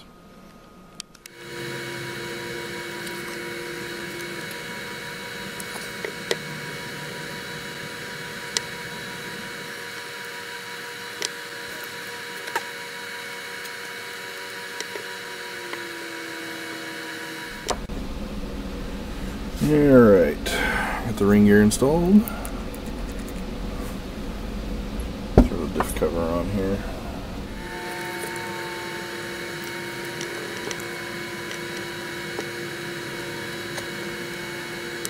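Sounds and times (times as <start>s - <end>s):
steady hiss and hum: 0.0s - 35.0s
thin whining tones: 0.0s - 35.0s.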